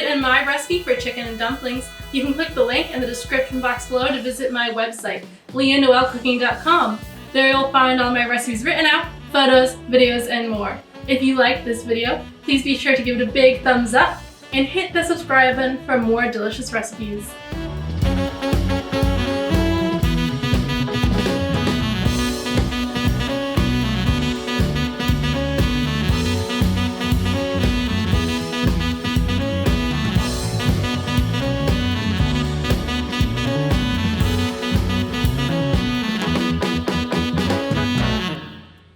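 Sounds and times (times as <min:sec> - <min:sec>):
drum kit: 0:00.0 - 0:04.7, 0:05.3 - 0:38.5
jazzy saxophone music: 0:00.2 - 0:04.2, 0:06.2 - 0:12.9, 0:17.0 - 0:38.9.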